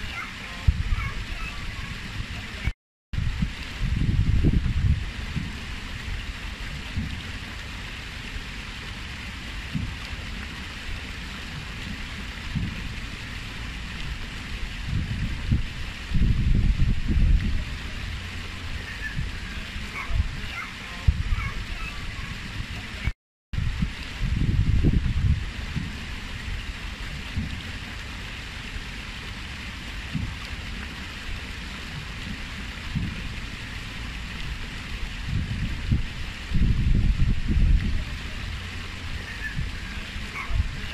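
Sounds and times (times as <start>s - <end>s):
wind rumble on microphone: 0.0s - 28.6s, 29.4s - 40.9s
water splashing down fountain: 0.0s - 40.9s.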